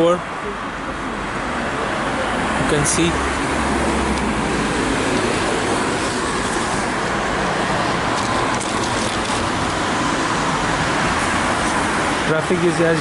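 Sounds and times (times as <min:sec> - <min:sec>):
highway traffic rushing: 0:00.0 - 0:13.0.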